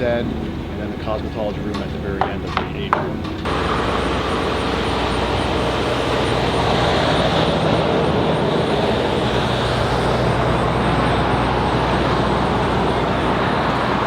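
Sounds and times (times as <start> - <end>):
low hum: 0.0 - 14.0
mechanical rumble and hiss: 0.0 - 14.0.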